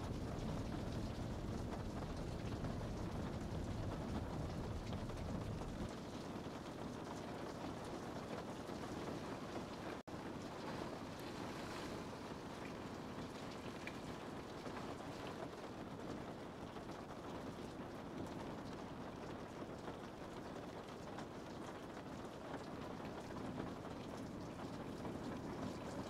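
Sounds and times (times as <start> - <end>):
steady rain: 0.0 - 26.0
raindrop ticks: 0.1 - 8.8, 12.7 - 26.0.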